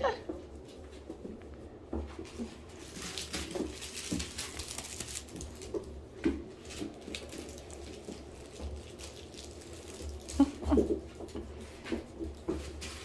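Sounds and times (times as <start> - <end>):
rope toy rustling: 0.5 - 13.0.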